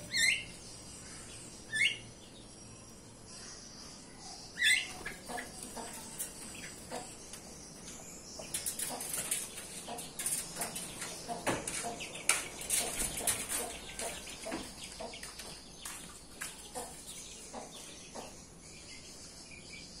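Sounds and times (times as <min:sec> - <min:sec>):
caged birds chirping: 0:00.0 - 0:20.0.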